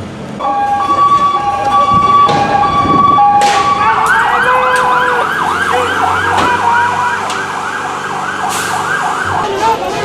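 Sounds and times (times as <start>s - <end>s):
police siren yelping: 0.4s - 10.0s.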